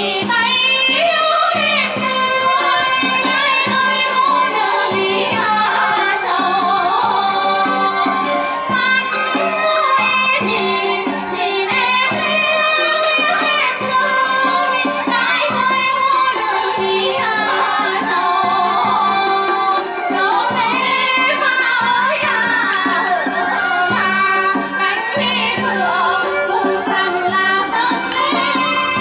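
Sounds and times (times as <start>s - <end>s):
traditional instruments playing: 0.0s - 29.0s
women singing folk song: 0.0s - 29.0s.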